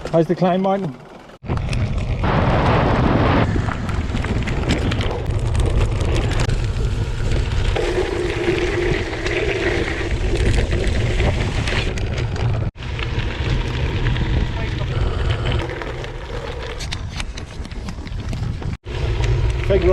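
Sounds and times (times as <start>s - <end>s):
bicycle rattling on gravel: 0.0s - 2.7s, 3.4s - 19.9s
wind buffeting microphone: 1.4s - 19.9s.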